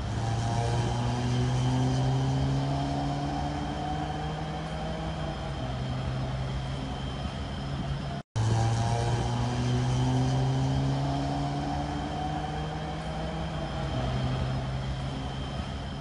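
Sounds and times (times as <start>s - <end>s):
idling road traffic drone: 0.0s - 16.0s.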